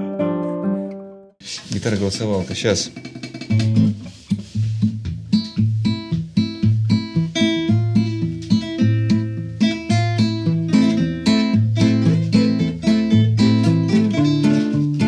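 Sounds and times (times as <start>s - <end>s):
classical guitar playing: 0.0s - 1.4s, 3.2s - 15.0s.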